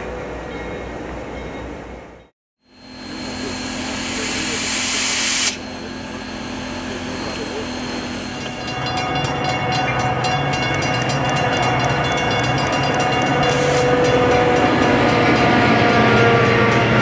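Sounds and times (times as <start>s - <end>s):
locomotive engine humming: 0.0s - 17.0s
train passing: 0.0s - 17.0s.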